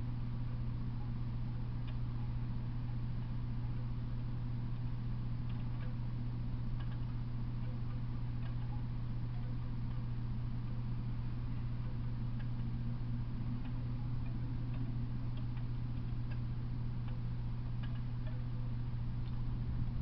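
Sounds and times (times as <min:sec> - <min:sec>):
low electrical hum: 0:00.0 - 0:20.0
faint irregular ticks: 0:00.1 - 0:19.6.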